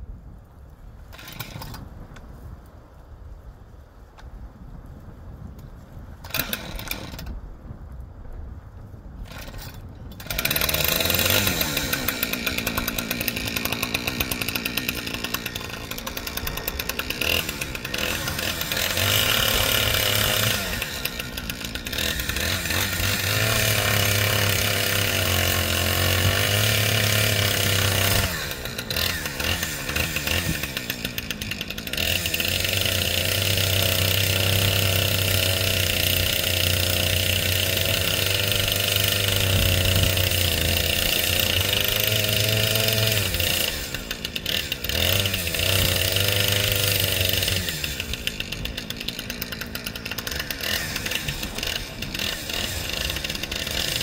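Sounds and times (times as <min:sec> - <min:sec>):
chainsaw engine revving and idling: 0:01.1 - 0:01.8, 0:06.2 - 0:07.3, 0:09.2 - 0:54.0.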